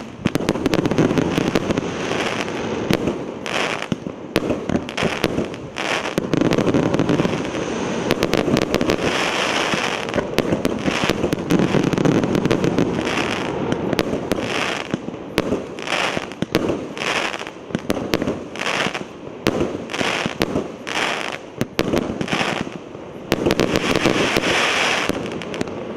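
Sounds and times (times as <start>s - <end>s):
fireworks firing and bursting: 0.0s - 25.9s.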